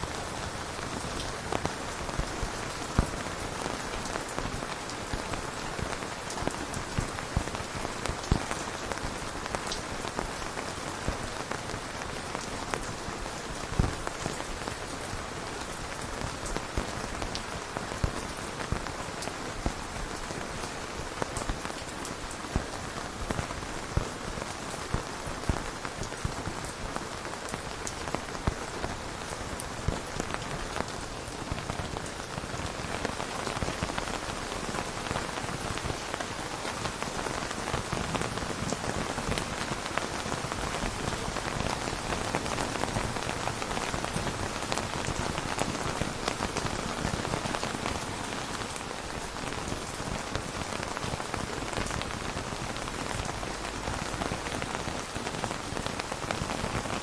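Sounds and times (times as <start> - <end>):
rain falling: 0.0 - 57.0
raindrops ticking: 0.0 - 57.0.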